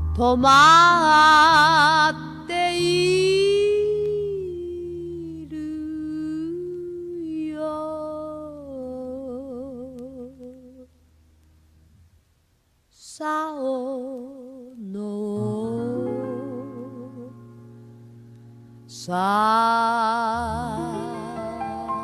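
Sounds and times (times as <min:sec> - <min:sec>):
woman singing jazz with vibrato: 0:00.0 - 0:10.9, 0:13.0 - 0:17.4, 0:18.9 - 0:22.0.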